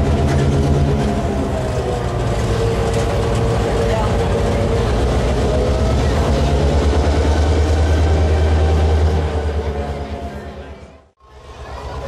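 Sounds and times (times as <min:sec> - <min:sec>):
diesel locomotive engine pulsing: 0:00.0 - 0:12.0.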